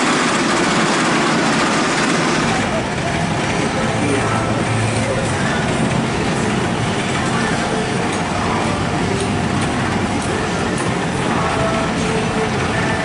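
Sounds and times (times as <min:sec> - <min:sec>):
roller coaster mechanical rumble: 0:00.0 - 0:13.0
people chattering: 0:02.3 - 0:13.0.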